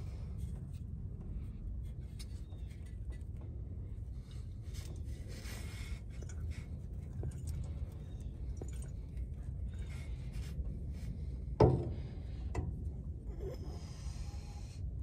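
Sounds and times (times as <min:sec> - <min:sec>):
faint ticks and scrapes: 0:00.0 - 0:14.8.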